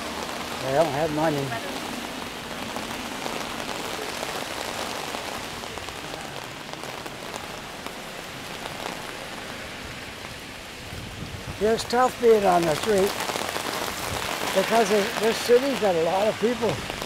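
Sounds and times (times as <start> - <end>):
heavy rain on umbrella: 0.0 - 17.0
rain on wet street: 0.0 - 17.0.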